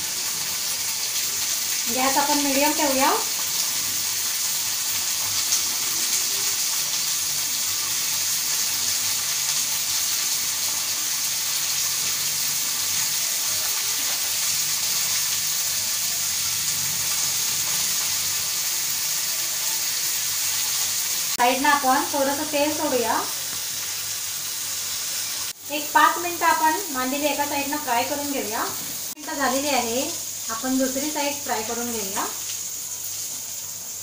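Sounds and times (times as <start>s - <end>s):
fish sizzling in hot oil: 0.0s - 34.0s.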